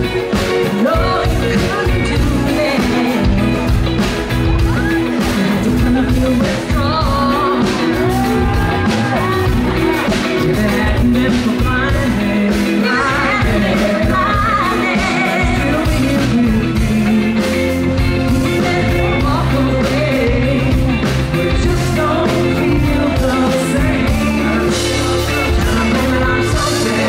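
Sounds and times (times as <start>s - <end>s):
person singing into microphone: 0.0s - 4.0s, 4.8s - 27.0s
live pop band playing: 0.0s - 27.0s.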